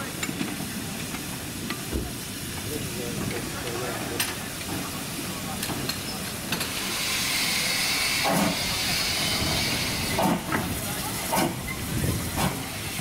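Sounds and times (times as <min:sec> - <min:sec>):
steam locomotive hissing: 0:00.0 - 0:13.0
low steam bursts: 0:00.1 - 0:13.0.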